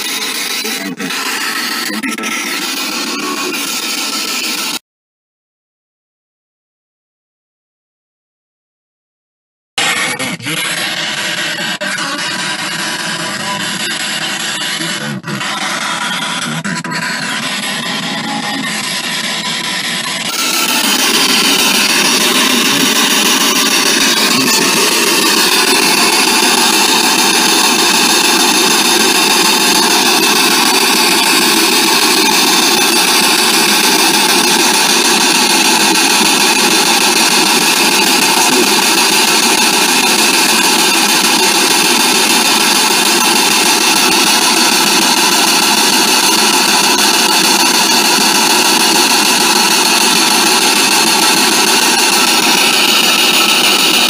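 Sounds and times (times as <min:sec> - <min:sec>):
radio static hissing: 0:00.0 - 0:04.8, 0:09.8 - 0:54.0.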